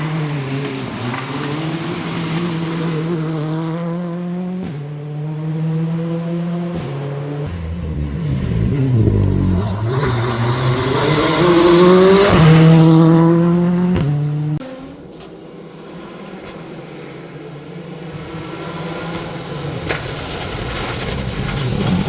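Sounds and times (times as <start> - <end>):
rally car engine at full throttle: 0.0 - 22.0.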